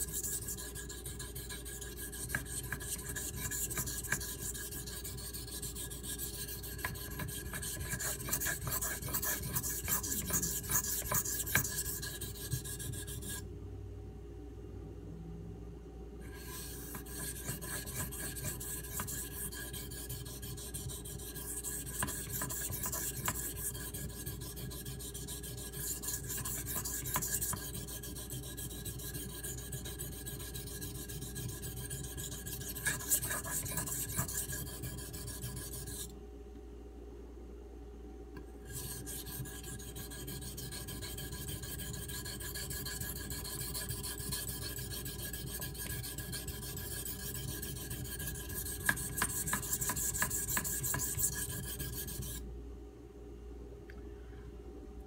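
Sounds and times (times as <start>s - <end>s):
knife scraping on whetstone: 0.0s - 13.4s, 16.3s - 36.1s, 38.7s - 52.4s.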